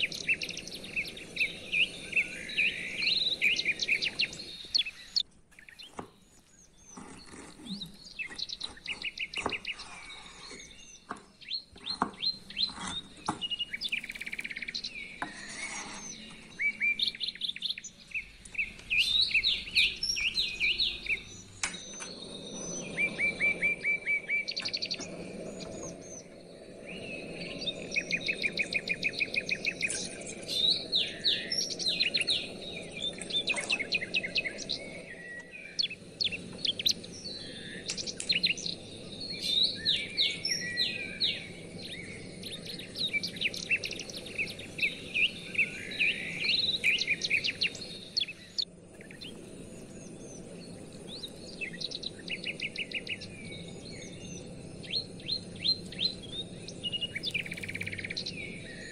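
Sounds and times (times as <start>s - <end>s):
songbirds singing and chirping: 0.0s - 58.9s
steady low background noise: 9.9s - 58.9s.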